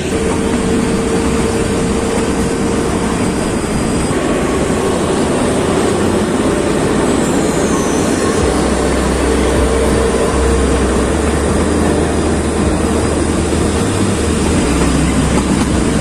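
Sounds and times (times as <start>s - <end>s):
train wheels on track: 0.0s - 16.0s.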